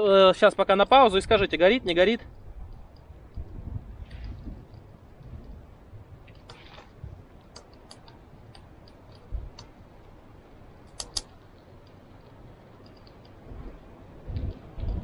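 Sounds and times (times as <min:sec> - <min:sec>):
small flame crackling: 0:00.0 - 0:15.0
sharp cracks: 0:00.8 - 0:15.0.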